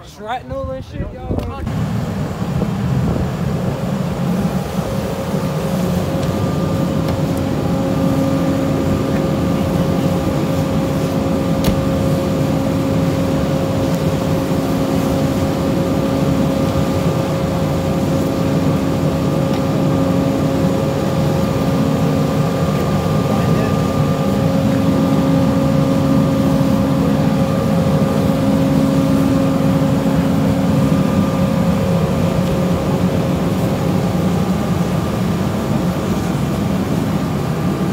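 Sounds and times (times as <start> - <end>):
fire engine rumbling: 0.0 - 37.9
steady droning tone: 1.6 - 37.9.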